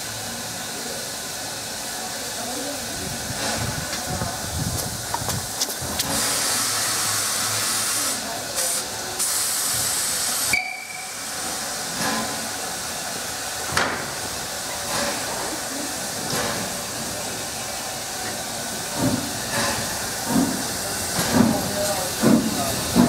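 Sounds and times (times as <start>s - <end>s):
sharp burst of steam: 0.0s - 23.0s
steam locomotive hissing steam: 0.0s - 23.0s.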